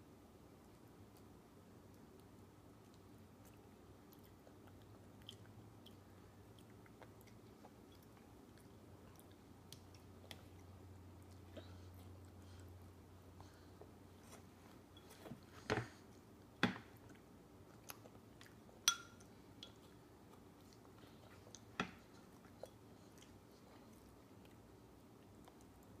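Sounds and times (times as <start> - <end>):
quiet chewing: 0.5 - 26.0.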